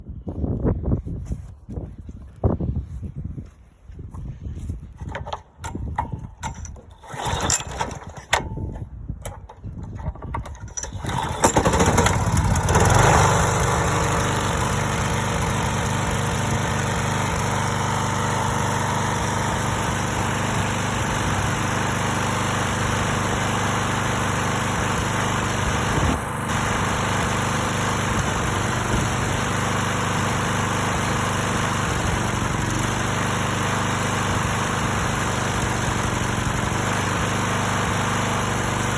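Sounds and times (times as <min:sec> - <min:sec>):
lawn mower engine sputtering and running: 0:05.0 - 0:38.9.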